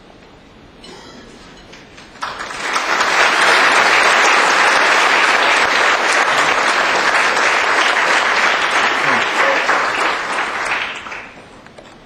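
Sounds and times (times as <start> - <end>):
audience applauding: 1.7 - 11.4.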